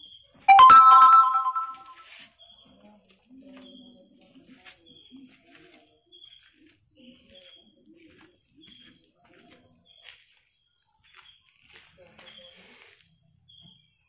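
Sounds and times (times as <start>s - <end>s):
insect chirp: 2.4s - 14.0s.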